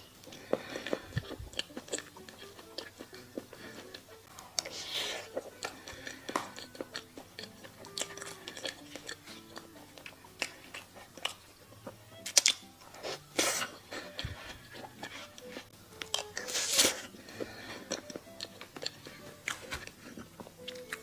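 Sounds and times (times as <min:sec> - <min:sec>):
chewing crunchy food: 0:00.0 - 0:21.0
soft background music: 0:00.0 - 0:21.0
wet mouth clicks: 0:00.2 - 0:11.5, 0:12.2 - 0:21.0.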